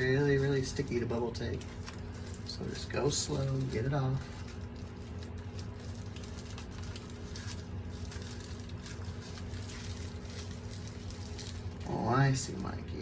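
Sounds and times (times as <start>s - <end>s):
tape and bubble wrap crinkling: 0.0s - 13.0s.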